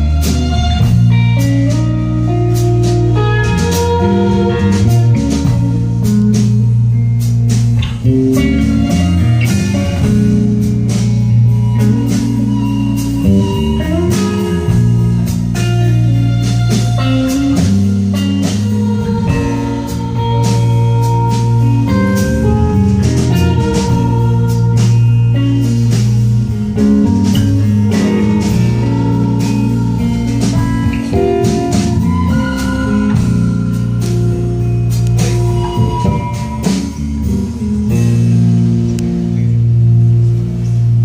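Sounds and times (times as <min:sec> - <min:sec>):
bass guitar: 0:00.0 - 0:41.0
drum kit beat: 0:00.0 - 0:41.0
electric guitars: 0:00.0 - 0:41.0.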